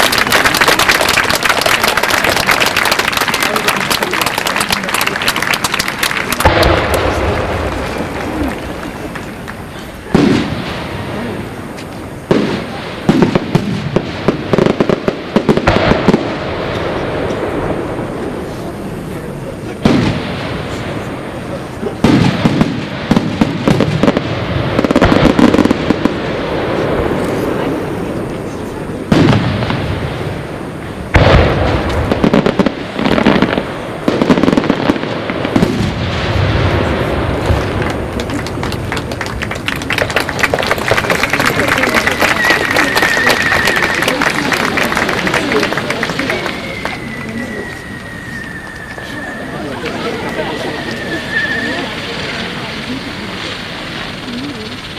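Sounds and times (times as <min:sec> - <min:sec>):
fireworks bangs: 0:00.0 - 0:54.9
fireworks crackling pops: 0:00.0 - 0:54.9
fireworks rumbling: 0:00.0 - 0:54.9.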